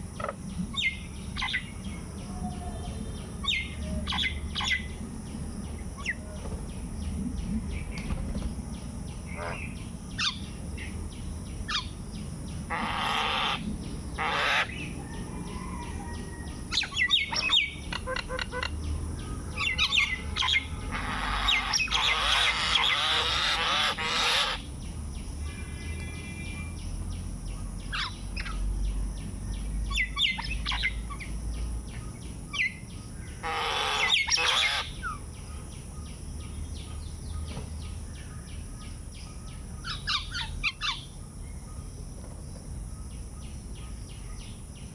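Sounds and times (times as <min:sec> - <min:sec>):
birds chirping and calling: 0:00.5 - 0:44.9.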